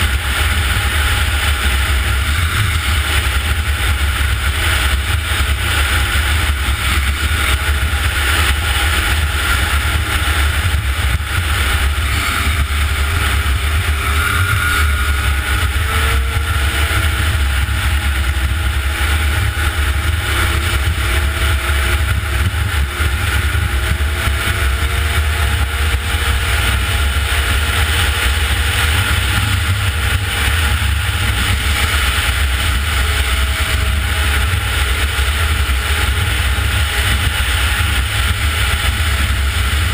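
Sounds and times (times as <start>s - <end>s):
snowmobile engine running: 0.0s - 39.9s
wind rumble on microphone: 0.0s - 39.9s.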